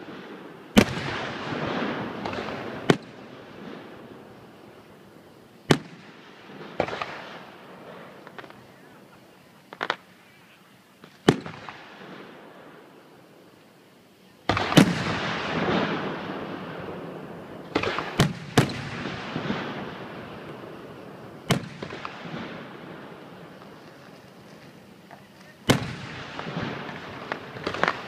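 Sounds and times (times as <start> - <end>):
fireworks bangs: 0.0 - 13.1, 14.4 - 28.0.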